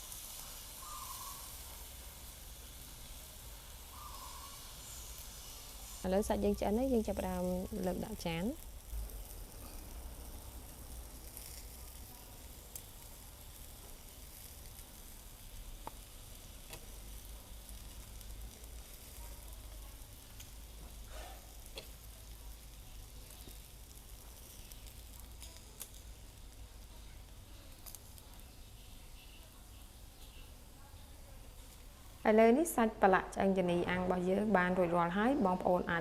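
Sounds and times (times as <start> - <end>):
ribs sizzling on a grill: 0.0 - 32.8.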